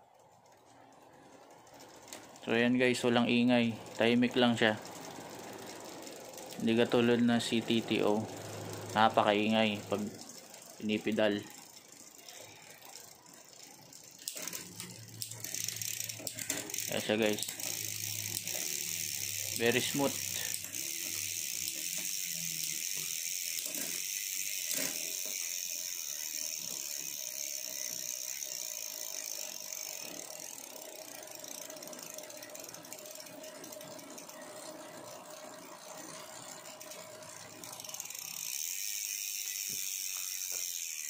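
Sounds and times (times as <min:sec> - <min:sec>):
bicycle drivetrain ratcheting buzz: 0:00.0 - 0:41.0.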